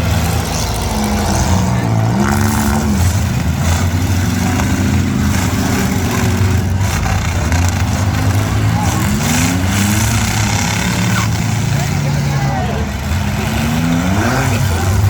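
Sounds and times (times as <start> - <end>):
engines revving hard: 0.0 - 15.0.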